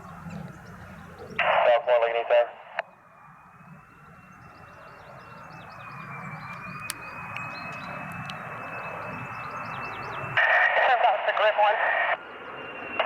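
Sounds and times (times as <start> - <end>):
military jet engine whine: 0.0 - 13.0.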